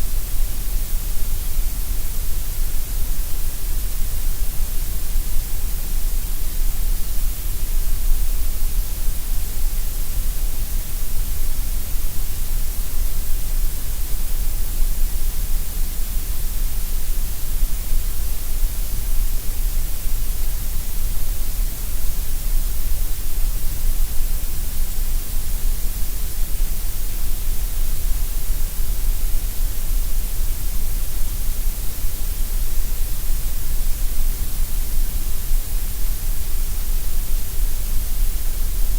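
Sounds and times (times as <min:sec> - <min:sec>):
grey noise hiss with deep rumble: 0:00.0 - 0:38.9.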